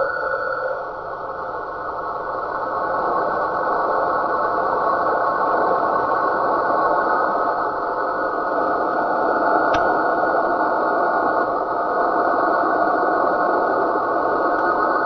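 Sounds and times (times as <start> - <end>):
radio static hiss: 1.1 - 15.0.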